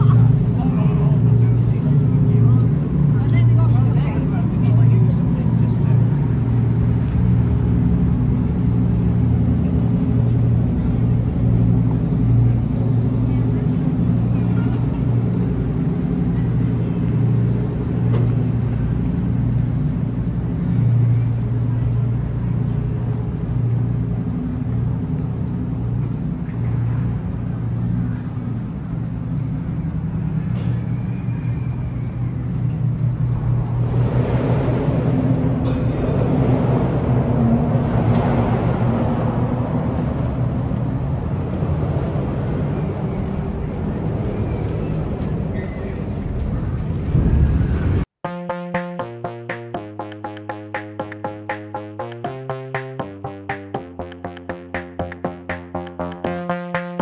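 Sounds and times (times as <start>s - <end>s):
large engine droning: 0.0s - 57.0s.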